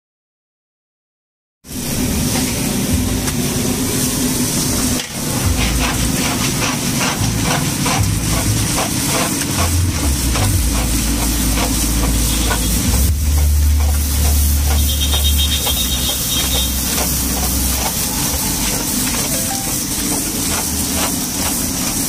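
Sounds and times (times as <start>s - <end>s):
steady low rumble: 1.7s - 8.8s, 9.4s - 21.4s
hot oil sizzling: 1.7s - 22.0s.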